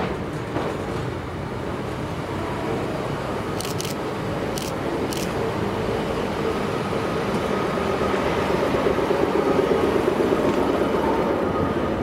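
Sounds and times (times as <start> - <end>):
diesel railcar engine drone: 0.0 - 12.0.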